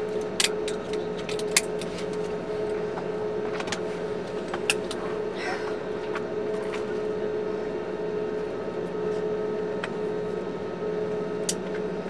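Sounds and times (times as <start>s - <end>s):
airplane cabin hum while taxiing: 0.0s - 12.0s.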